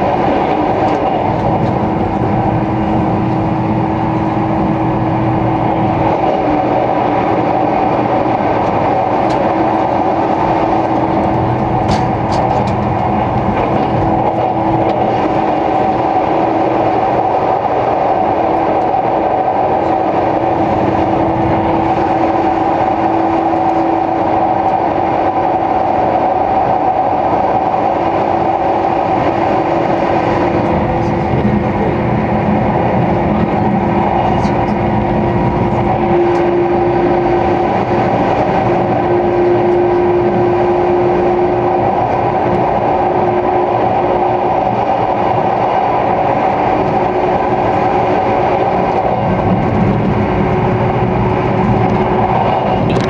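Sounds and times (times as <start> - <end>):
droning hum of train equipment: 0.0 - 53.0
train wheels rumbling on rail: 0.0 - 53.0.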